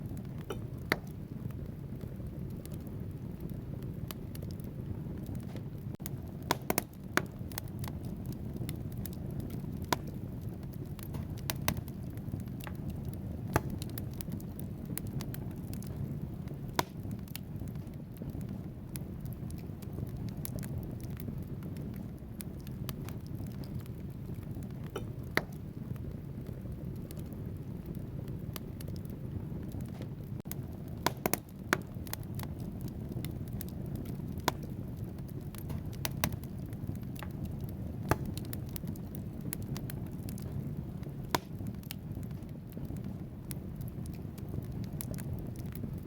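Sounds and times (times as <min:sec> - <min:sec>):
fire rumbling: 0:00.0 - 0:46.0
logs crackling and popping: 0:00.0 - 0:46.0.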